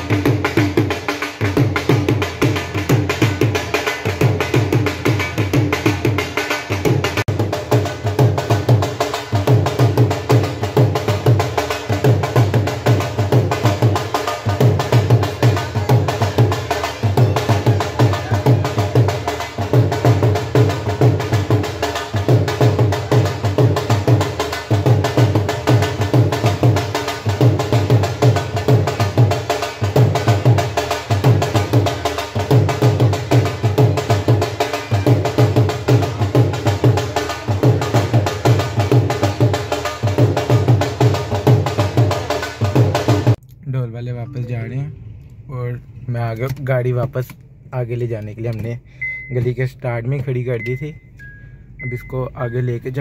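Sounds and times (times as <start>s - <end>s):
barrel drum beat: 0.0s - 43.4s.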